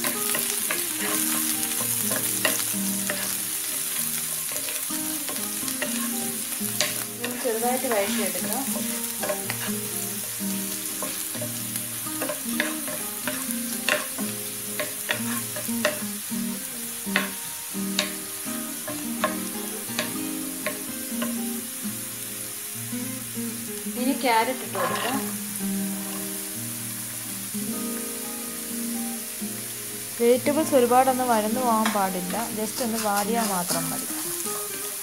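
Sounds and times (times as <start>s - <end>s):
green beans sizzling in hot fat: 0.0s - 35.0s.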